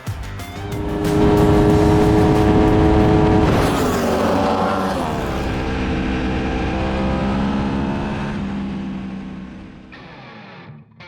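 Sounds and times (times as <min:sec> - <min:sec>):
motorcycle engine revving down: 0:00.4 - 0:09.9.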